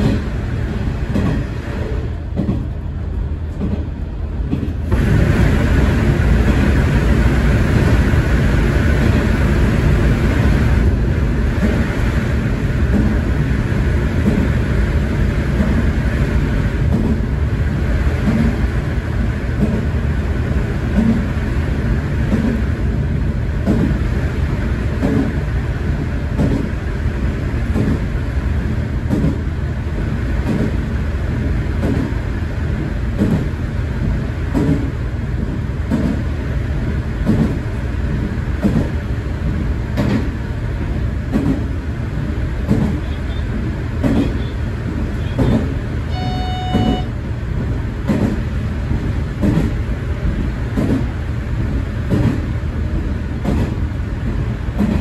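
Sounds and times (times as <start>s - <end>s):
train engine and wheel rumble: 0.0s - 55.0s.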